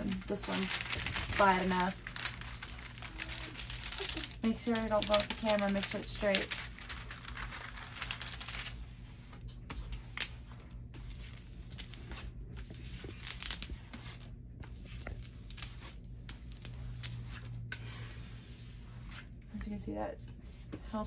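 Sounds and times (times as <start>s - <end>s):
tool swishing over plastic film: 0.0s - 19.3s.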